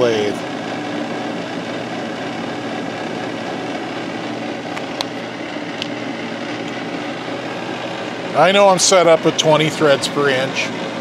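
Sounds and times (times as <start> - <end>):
lathe motor whirring: 0.0 - 11.0.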